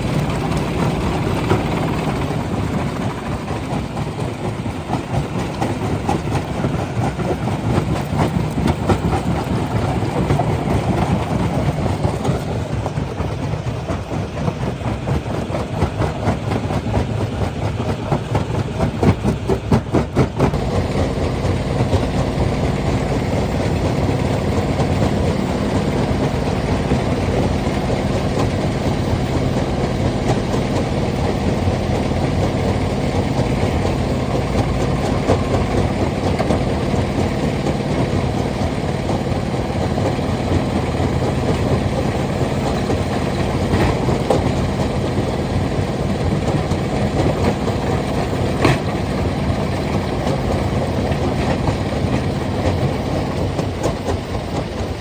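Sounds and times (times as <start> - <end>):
stone crusher machinery rumbling: 0.0 - 14.1, 18.1 - 55.0
engine hum: 0.0 - 55.0.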